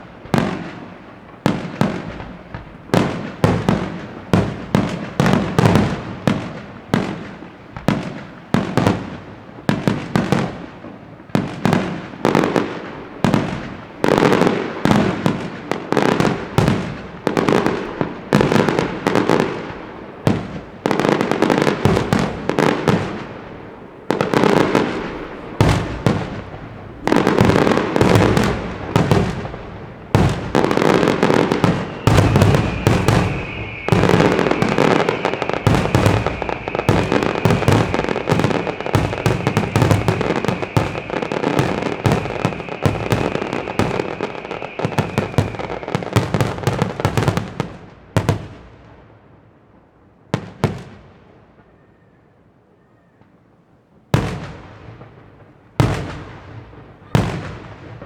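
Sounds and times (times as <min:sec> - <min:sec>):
fireworks bangs and crackle: 0:00.0 - 0:52.1, 0:53.1 - 0:58.0.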